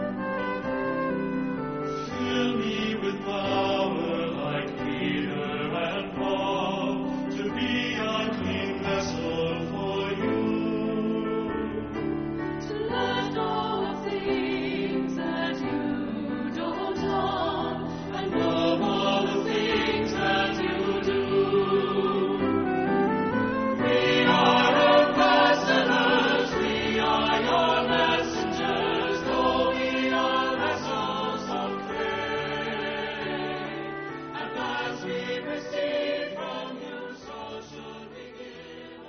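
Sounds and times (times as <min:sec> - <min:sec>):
choir singing held notes: 0:00.0 - 0:11.8, 0:12.6 - 0:39.0.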